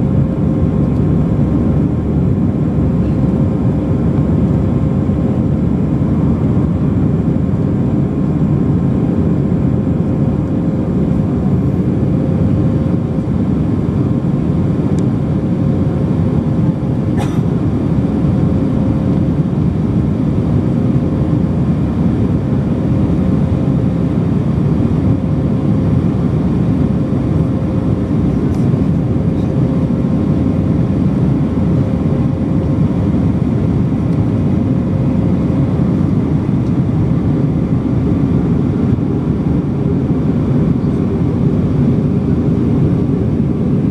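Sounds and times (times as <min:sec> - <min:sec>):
airplane cabin jet engine roar: 0:00.0 - 0:43.9.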